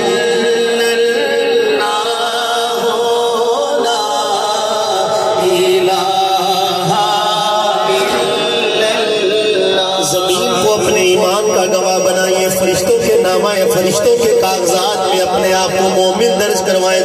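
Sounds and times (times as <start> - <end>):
man chanting into a microphone: 0.0 - 17.0.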